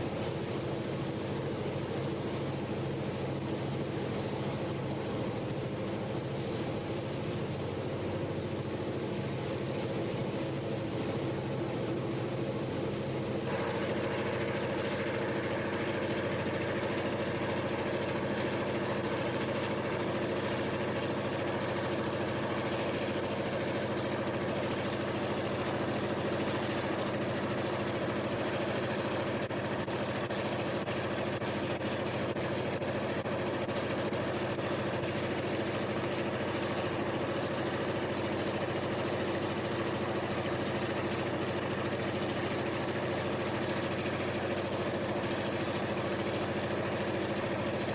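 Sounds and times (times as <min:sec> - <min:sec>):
diesel locomotive engine running: 0:00.0 - 0:47.9.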